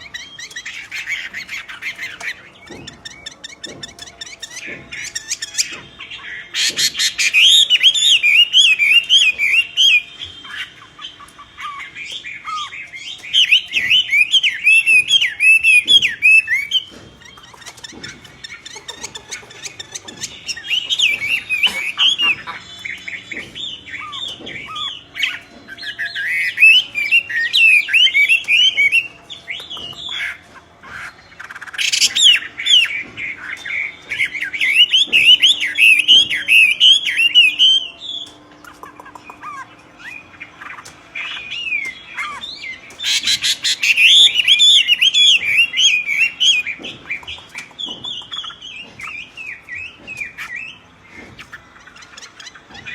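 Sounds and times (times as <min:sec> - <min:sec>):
bird chirping and squawking: 0:00.0 - 0:52.9.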